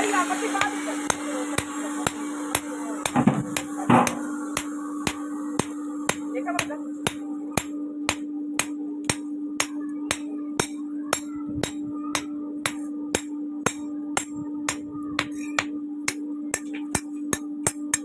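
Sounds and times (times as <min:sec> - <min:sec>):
steady hum: 0:00.0 - 0:18.0
hammer striking metal: 0:00.6 - 0:18.0.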